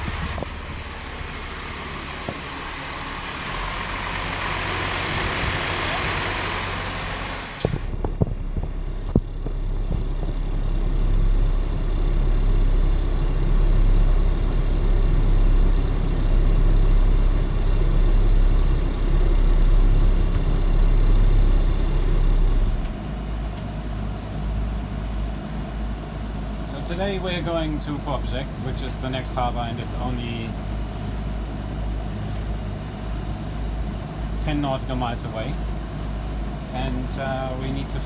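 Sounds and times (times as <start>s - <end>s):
diesel engine humming: 0.0s - 38.0s.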